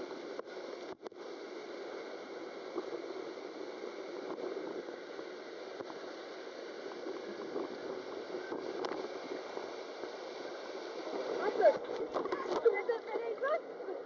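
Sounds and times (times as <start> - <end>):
water rushing in slide tube: 0.0 - 14.0.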